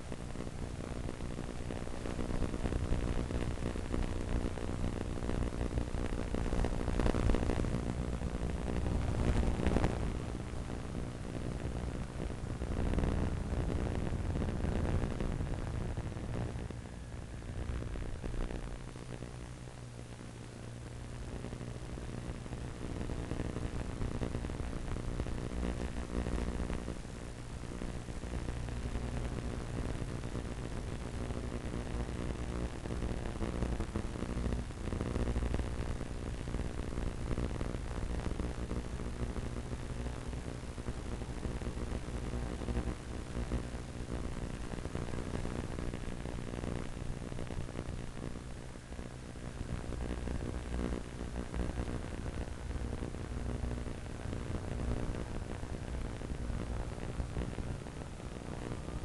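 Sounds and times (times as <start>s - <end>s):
static hiss: 0.0s - 59.0s.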